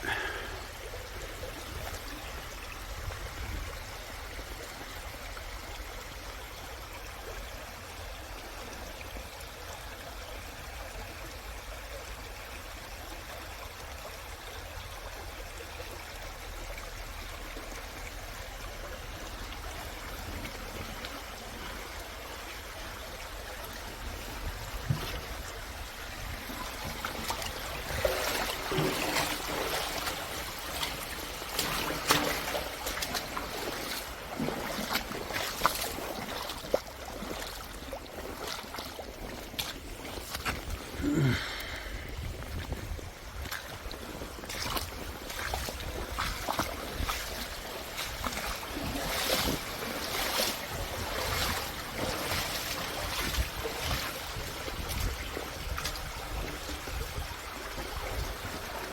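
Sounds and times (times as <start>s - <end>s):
stream water rushing over rocks: 0.0s - 58.9s.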